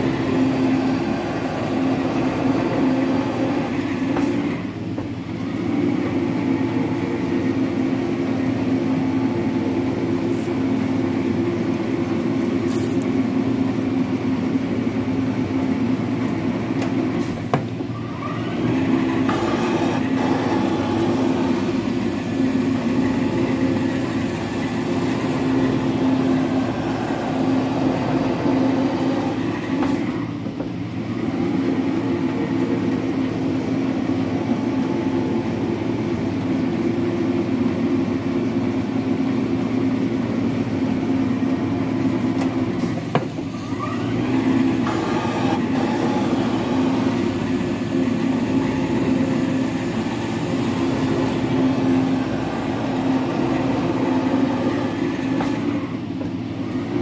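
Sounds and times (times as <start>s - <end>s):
metal planer machine drone: 0.0s - 57.0s.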